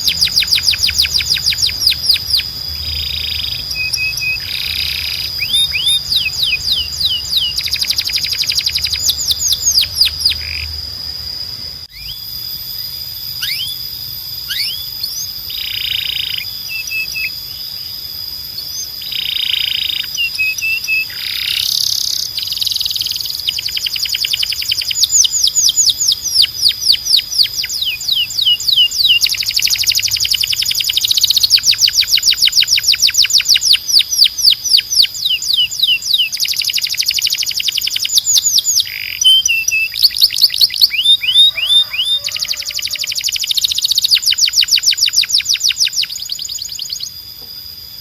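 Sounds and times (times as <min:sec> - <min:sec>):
canary singing: 0:00.0 - 0:47.2.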